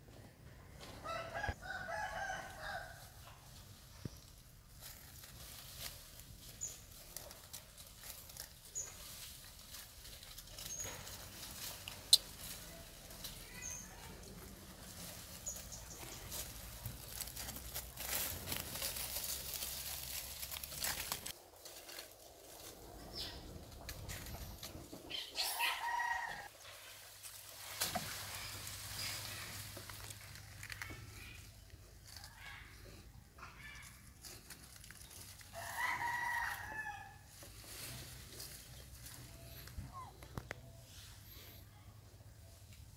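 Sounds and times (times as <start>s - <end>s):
rustling: 2.9s - 25.6s, 26.3s - 41.6s.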